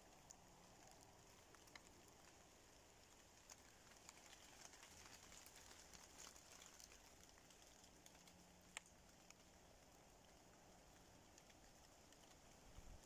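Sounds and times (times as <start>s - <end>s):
raindrops ticking on leaves: 0.0s - 13.0s
soft hiss: 0.0s - 13.0s.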